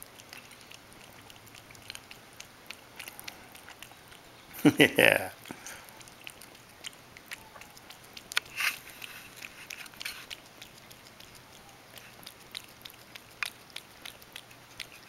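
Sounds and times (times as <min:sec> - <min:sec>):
cat licking and nibbling: 0:00.0 - 0:15.0.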